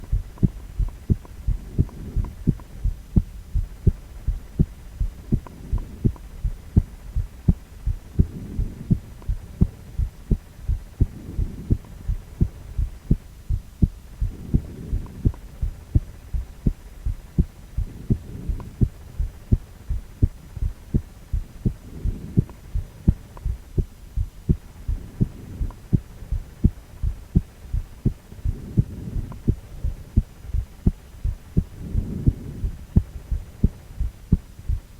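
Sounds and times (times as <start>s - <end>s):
heartbeat thumps: 0.0s - 34.9s
low hum: 0.0s - 34.9s.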